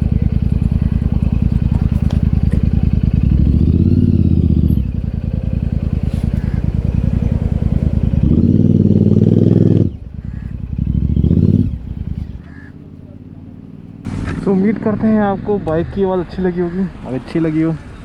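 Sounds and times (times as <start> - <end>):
motorcycle engine pulsing exhaust: 0.0 - 17.0.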